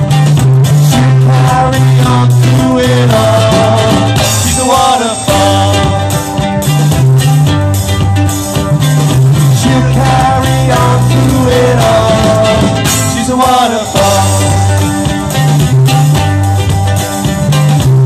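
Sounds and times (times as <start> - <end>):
live band playing upbeat tune: 0.0 - 18.0.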